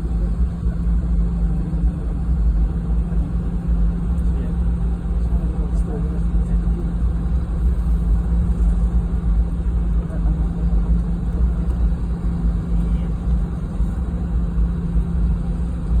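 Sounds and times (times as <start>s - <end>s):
airplane cabin rumble: 0.0s - 16.0s
jet engine hum: 0.0s - 16.0s.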